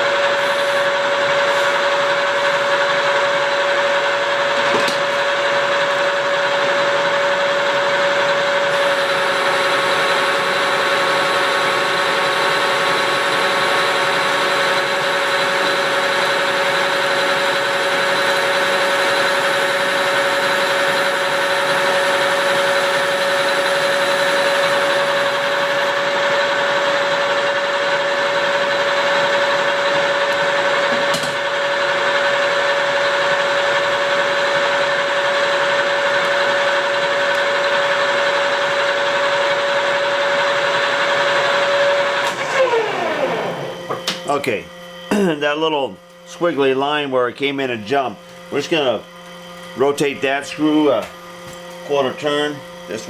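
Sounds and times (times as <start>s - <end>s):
lathe whining: 0.0s - 45.1s.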